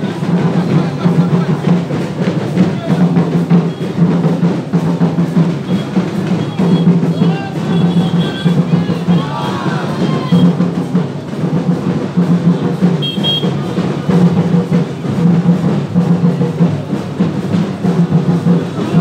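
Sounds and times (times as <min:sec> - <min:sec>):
drums beating steady rhythm: 0:00.0 - 0:19.0
music: 0:00.0 - 0:19.0.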